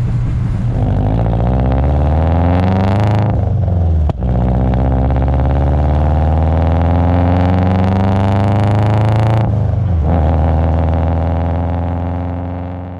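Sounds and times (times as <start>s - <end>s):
turbocharged car engine running: 0.0s - 12.9s.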